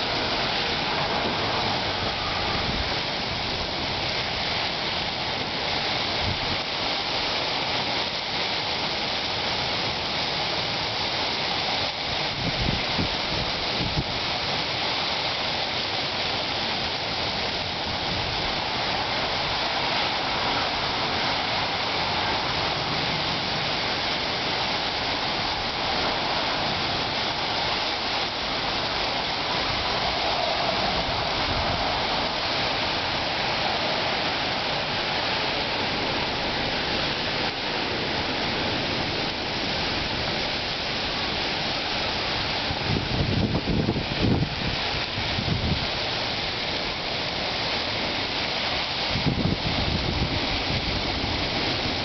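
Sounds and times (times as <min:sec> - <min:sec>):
hiss of falling sleet: 0:00.0 - 0:52.0.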